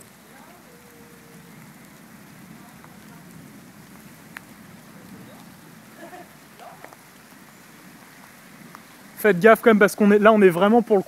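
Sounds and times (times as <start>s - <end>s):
light rain hiss: 0.0s - 11.0s
raindrops ticking: 0.0s - 11.0s.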